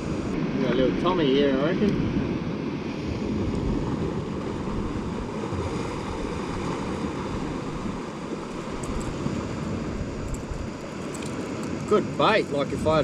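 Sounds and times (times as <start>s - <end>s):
ocean surf: 0.0s - 13.0s
wind rumbling on microphone: 0.0s - 13.0s.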